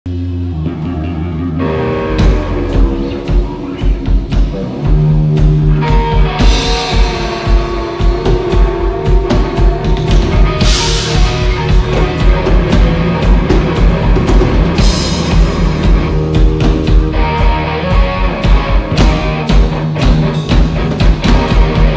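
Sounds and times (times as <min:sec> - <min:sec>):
rock band playing: 0:00.1 - 0:21.9.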